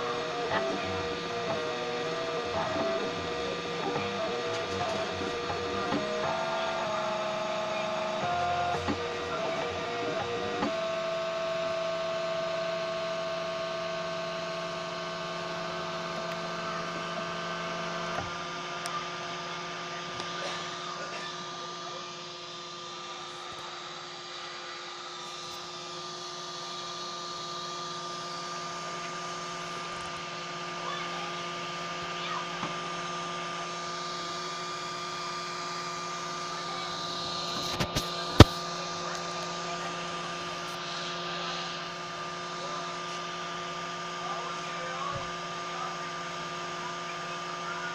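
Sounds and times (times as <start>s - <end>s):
steady electrical hum: 0.0s - 47.9s
stepper motors whining: 0.0s - 47.9s.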